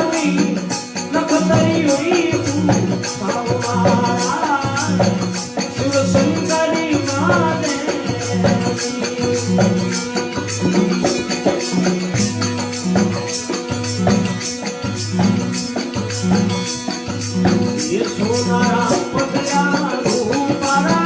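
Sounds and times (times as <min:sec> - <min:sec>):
fast hand percussion: 0:00.0 - 0:21.0
instrumental melody: 0:00.0 - 0:21.0.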